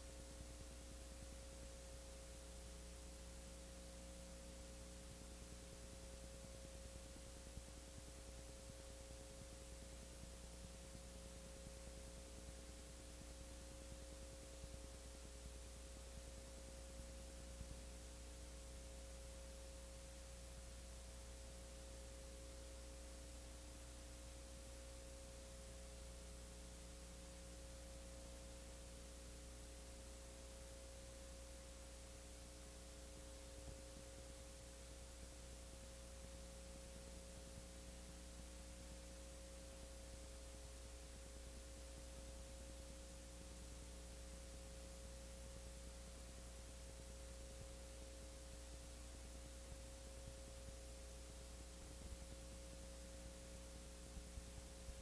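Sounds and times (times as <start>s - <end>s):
electrical hum: 0.0s - 55.0s
faint high tone and hiss: 0.0s - 55.0s.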